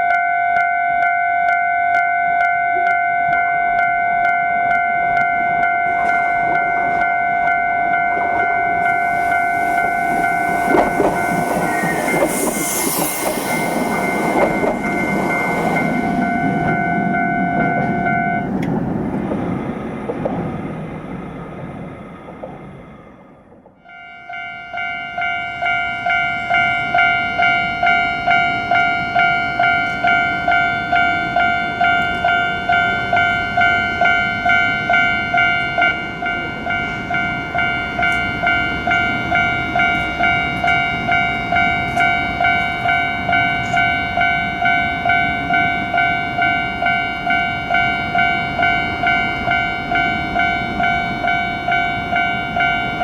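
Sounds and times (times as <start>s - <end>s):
level-crossing warning bell ringing: 0.0s - 20.0s, 23.8s - 53.0s
low rumble of passing train: 0.0s - 53.0s.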